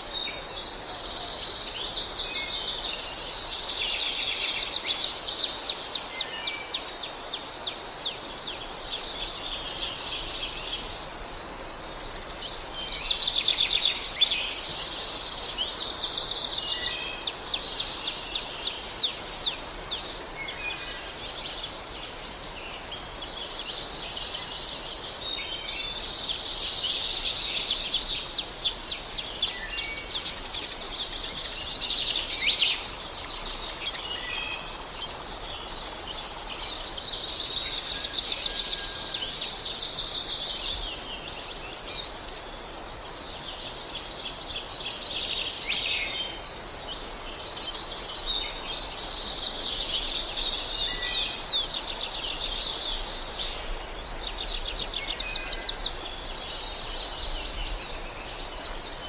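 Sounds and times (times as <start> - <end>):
background hiss: 0.0 - 59.0
flock of birds chirping: 0.0 - 59.0.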